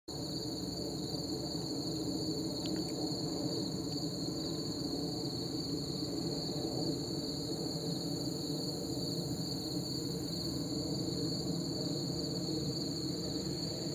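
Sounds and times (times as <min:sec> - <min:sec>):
airplane engine droning: 0:00.1 - 0:13.9
crickets chirring: 0:00.1 - 0:13.9.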